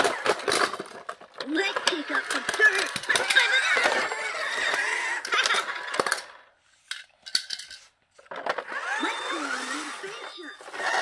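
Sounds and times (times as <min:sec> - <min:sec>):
toy cars clinking: 0:00.0 - 0:11.0.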